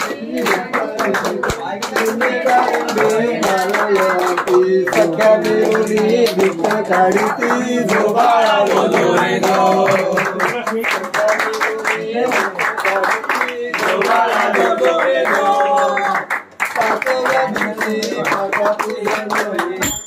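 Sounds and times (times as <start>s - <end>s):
men singing in unison: 0.0s - 20.0s
rhythmic hand clapping: 0.0s - 20.0s.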